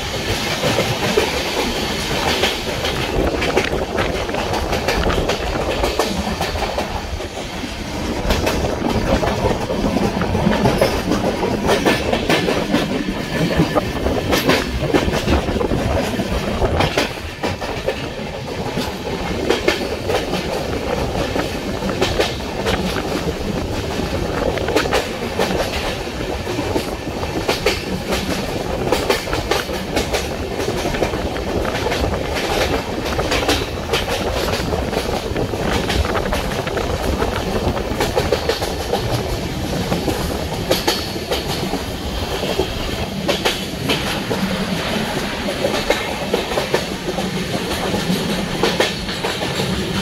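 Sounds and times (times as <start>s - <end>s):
train coach rumble: 0.0s - 50.0s
wheels clicking over rail joints: 0.1s - 50.0s.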